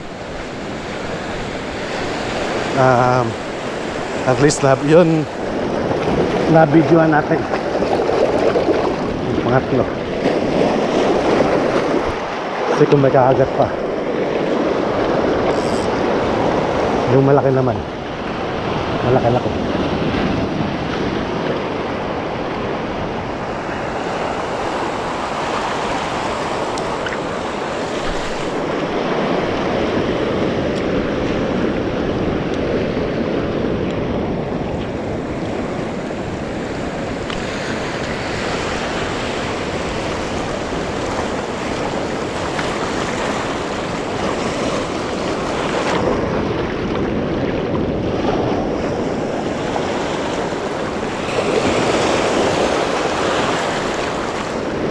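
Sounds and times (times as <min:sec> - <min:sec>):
ocean waves washing on shore: 0:00.0 - 0:54.9
wind buffeting microphone: 0:00.0 - 0:54.9.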